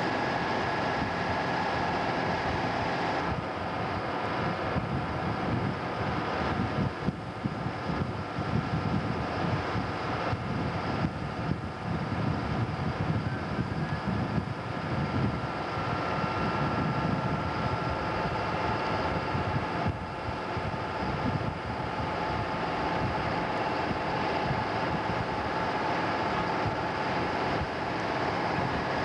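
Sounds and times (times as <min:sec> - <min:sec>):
diesel engines droning with whine: 0:00.0 - 0:29.0.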